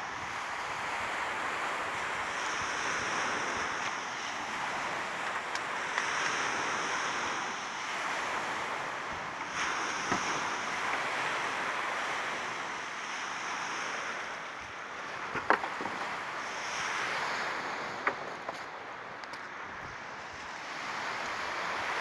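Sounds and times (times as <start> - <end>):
waves washing on pebbly shore: 0.0 - 22.0
wind on microphone: 0.0 - 22.0.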